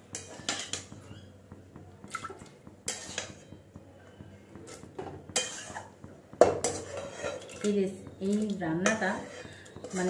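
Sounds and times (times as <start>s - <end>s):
metal utensil scraping a pan: 0.0s - 1.3s, 2.3s - 3.7s, 4.6s - 10.0s.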